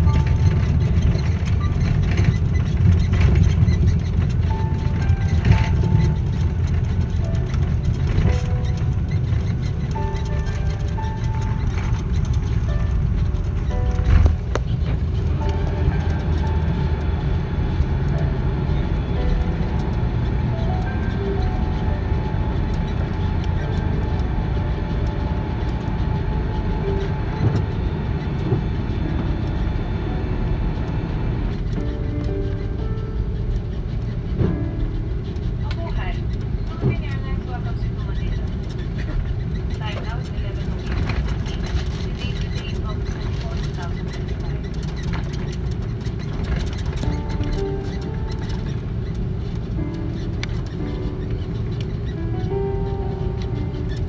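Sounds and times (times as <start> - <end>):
airliner cabin rumble: 0.0 - 54.0
soft cabin music: 0.0 - 54.0.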